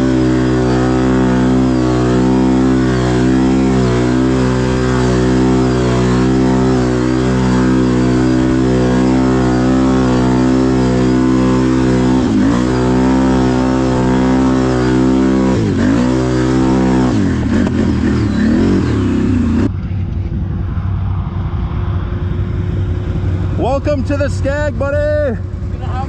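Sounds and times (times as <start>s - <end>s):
atv engine revving: 0.0s - 26.0s.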